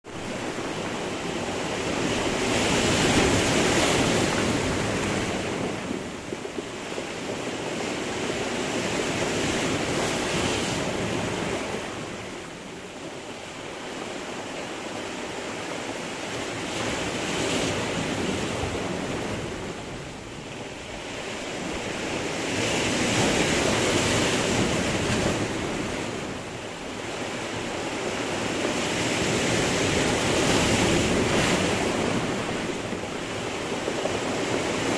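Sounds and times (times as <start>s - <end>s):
surf breaking on stony shore: 0.1s - 34.9s.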